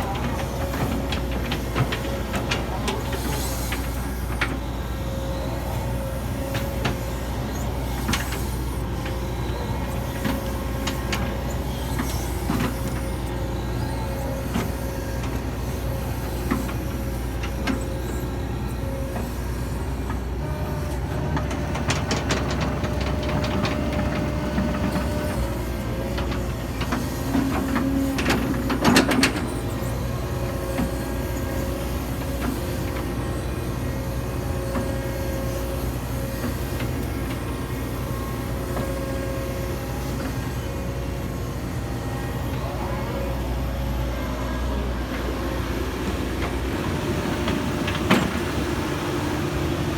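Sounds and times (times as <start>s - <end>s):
clicks and clanks from tracks: 0.0s - 49.9s
excavator running under load: 0.0s - 49.9s.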